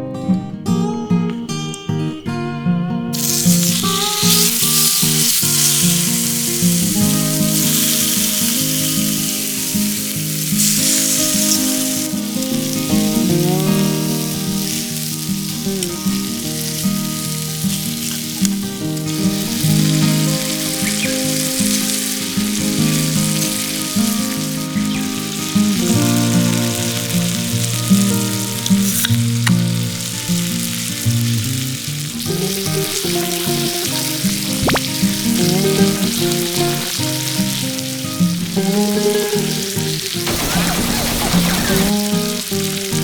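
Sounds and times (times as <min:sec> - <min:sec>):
acoustic guitar music: 0:00.0 - 0:43.0
meat sizzling on a grill: 0:03.1 - 0:43.0.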